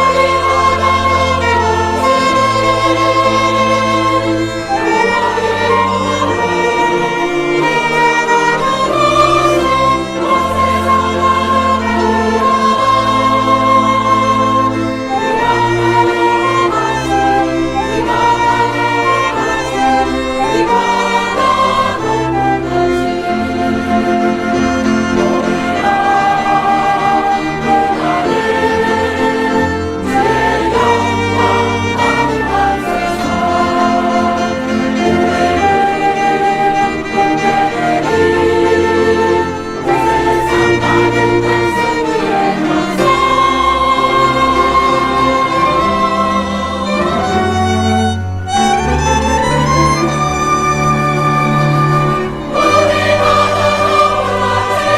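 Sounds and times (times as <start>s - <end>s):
bowed string melody: 0.0s - 54.9s
choir singing: 0.0s - 54.9s
string section: 0.0s - 54.9s.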